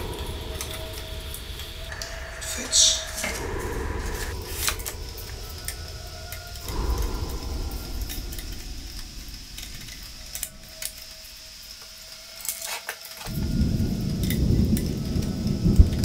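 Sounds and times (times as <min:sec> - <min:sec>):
low rumbling noise: 0:00.0 - 0:12.4, 0:13.3 - 0:16.0.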